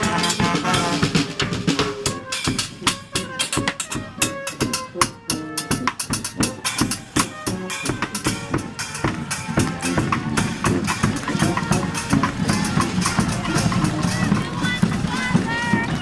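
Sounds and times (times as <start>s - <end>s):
bass drum and snare beat: 0.0s - 16.0s
horns holding notes: 0.0s - 16.0s.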